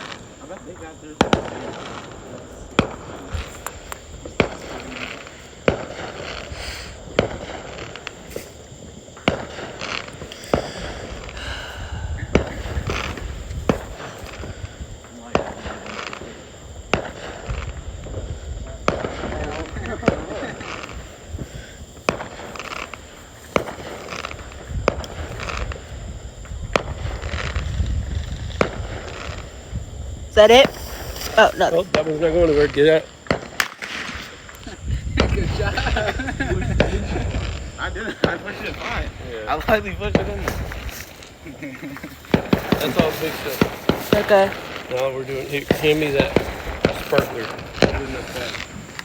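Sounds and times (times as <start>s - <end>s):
fireworks bangs: 0.0s - 49.0s
fireworks pops and crackle: 0.0s - 49.0s.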